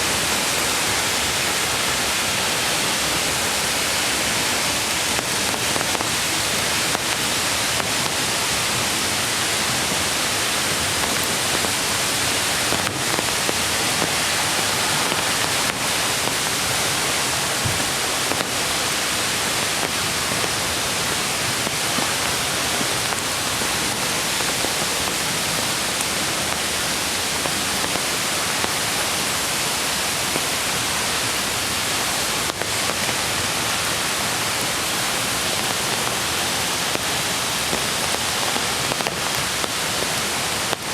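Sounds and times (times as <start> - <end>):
rain falling: 0.0 - 40.9
stream flowing over stones: 0.0 - 40.9.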